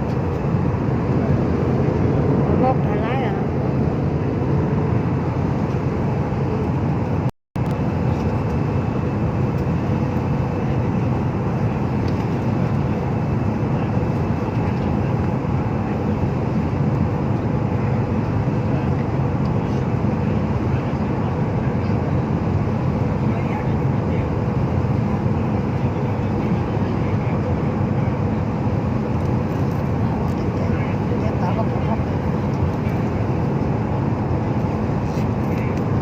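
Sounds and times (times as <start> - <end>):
jet engine drone in cabin: 0.0 - 36.0.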